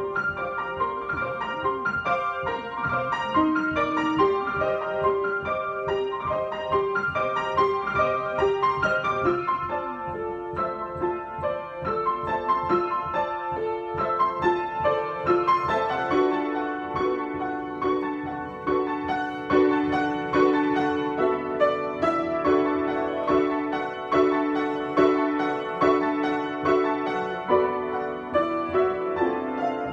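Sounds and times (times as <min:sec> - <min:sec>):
solo piano: 0:00.0 - 0:29.9.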